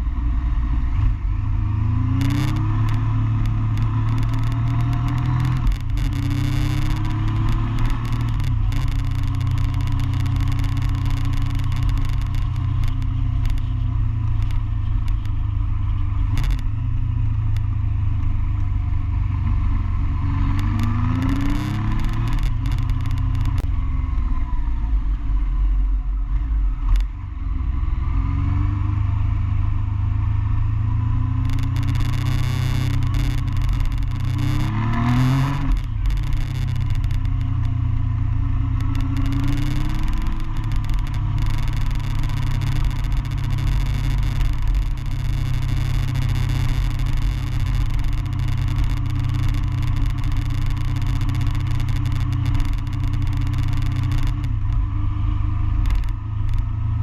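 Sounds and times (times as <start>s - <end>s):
motorcycle engine revving: 0.0s - 24.4s, 26.8s - 57.0s.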